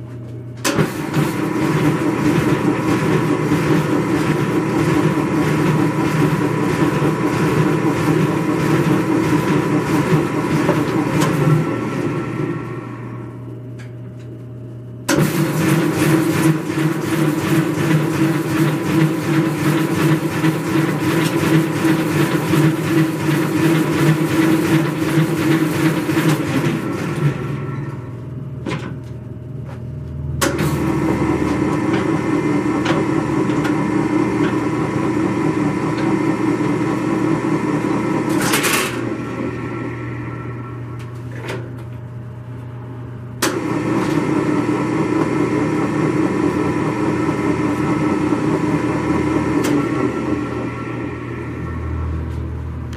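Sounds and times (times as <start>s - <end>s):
mixer running: 0.0s - 52.9s
mixer winding down: 0.6s - 13.7s, 15.0s - 28.6s, 30.2s - 52.9s.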